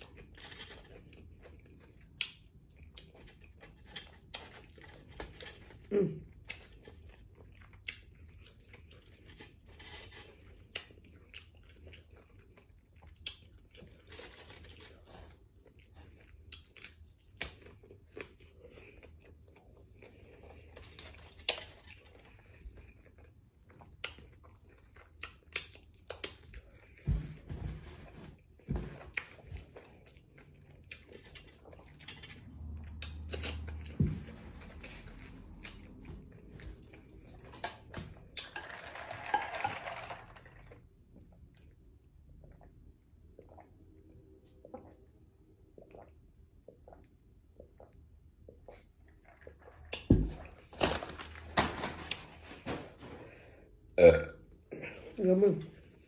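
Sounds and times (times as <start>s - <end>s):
person chewing wetly: 0.0s - 27.1s, 28.4s - 38.5s, 40.6s - 51.5s.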